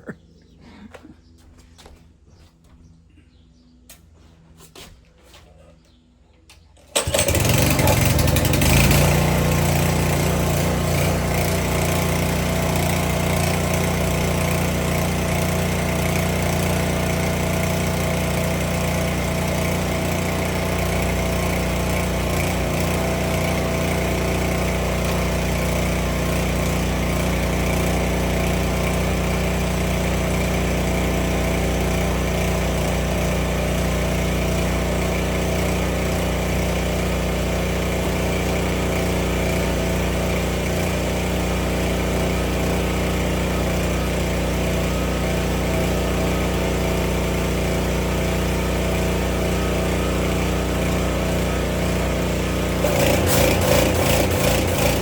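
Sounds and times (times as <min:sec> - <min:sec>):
pressure washer engine starting: 0:06.8 - 0:55.0.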